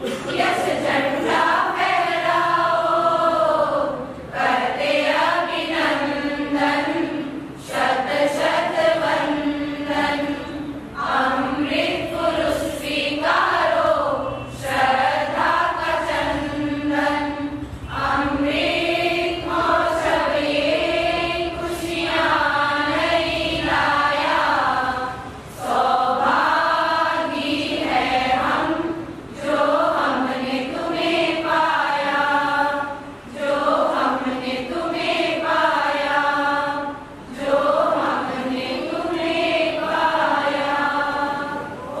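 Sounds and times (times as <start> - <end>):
women's group singing: 0.0 - 42.0.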